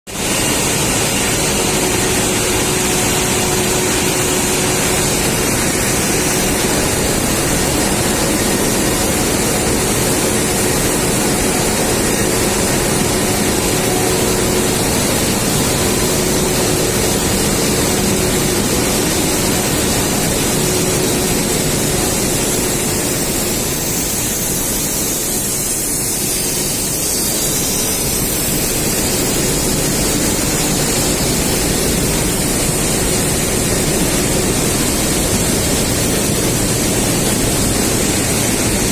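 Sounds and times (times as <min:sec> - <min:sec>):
extruder machine running: 0:00.1 - 0:38.9.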